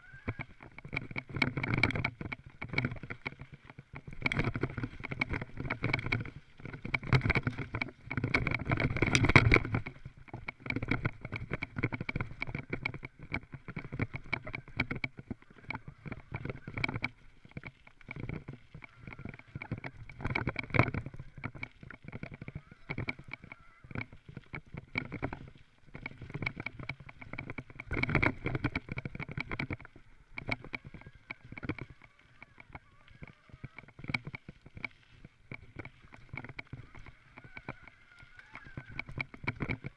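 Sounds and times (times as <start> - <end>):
mountain bike rattling over bumps: 0.0 - 39.9.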